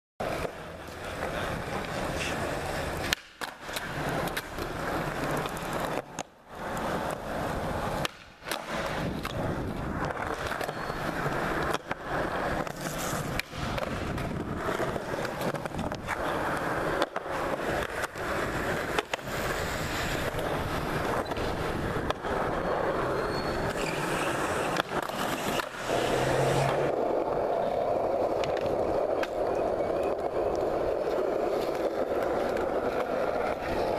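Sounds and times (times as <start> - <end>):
skateboard clacks: 0.2 - 33.9
skateboard wheels rolling on concrete: 0.2 - 33.9.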